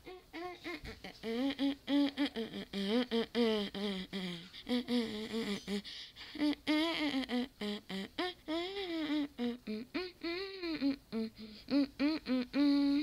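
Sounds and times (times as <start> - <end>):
high voice humming a tune: 0.0 - 13.0.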